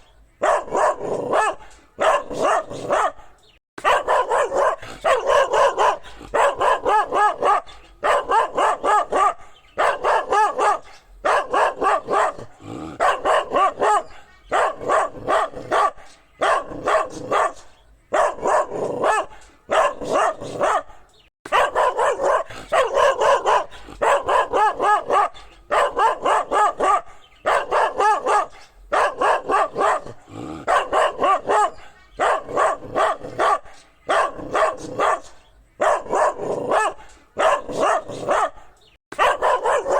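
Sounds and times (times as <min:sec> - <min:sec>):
dog barking: 0:00.0 - 0:39.9.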